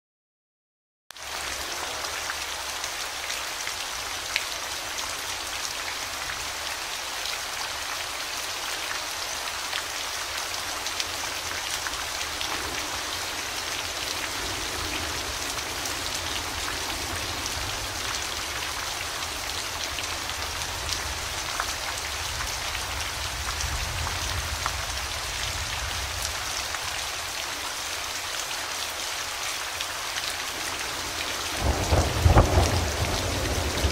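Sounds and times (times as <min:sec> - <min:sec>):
steady rain: 0:01.1 - 0:33.9.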